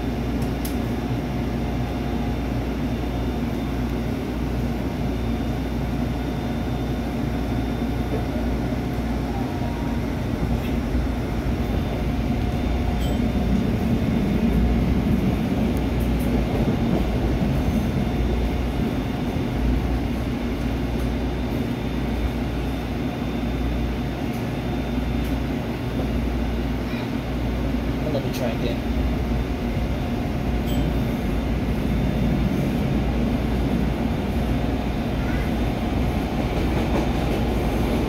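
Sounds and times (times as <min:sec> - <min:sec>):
trolley motors and wheels rumbling: 0:00.0 - 0:38.0.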